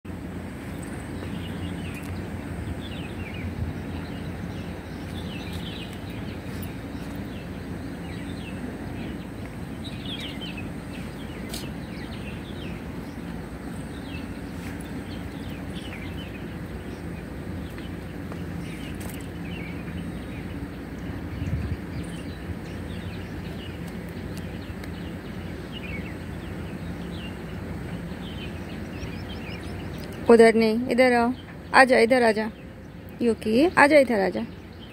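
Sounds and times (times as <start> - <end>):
birds chirping: 0.1 - 34.9
steady low hum: 0.1 - 34.9.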